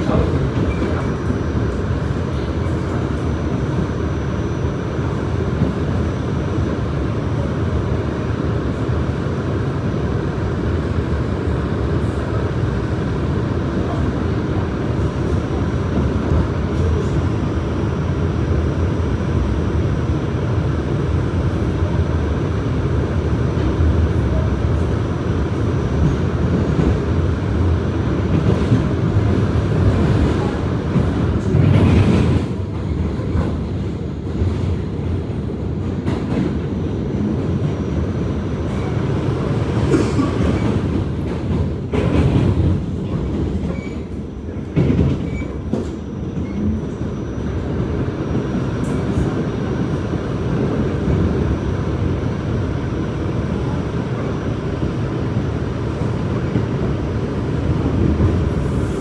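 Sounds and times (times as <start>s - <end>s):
subway train low rumble: 0.0s - 59.0s.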